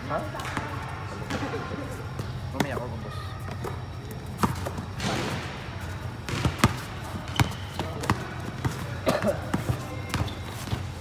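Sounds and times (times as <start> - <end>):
steady low hum: 0.0 - 11.0
basketball bouncing on court: 0.3 - 2.8, 3.4 - 11.0.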